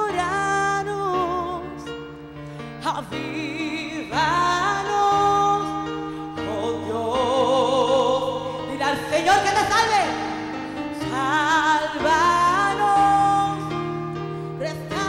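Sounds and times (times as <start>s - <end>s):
woman singing with vibrato: 2.8s - 15.0s.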